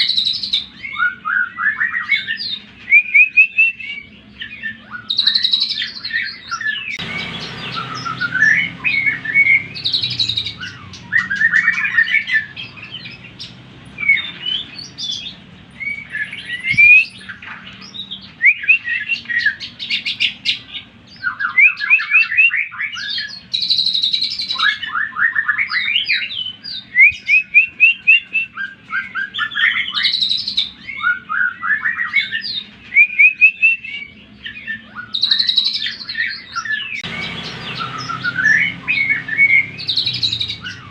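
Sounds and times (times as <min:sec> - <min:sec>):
bird singing whistled phrases: 0:00.0 - 0:40.9.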